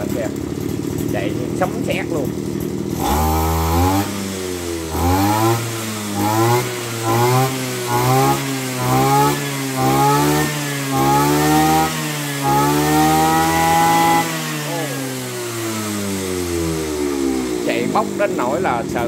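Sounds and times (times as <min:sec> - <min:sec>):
brush cutter engine revving: 0:00.0 - 0:19.0.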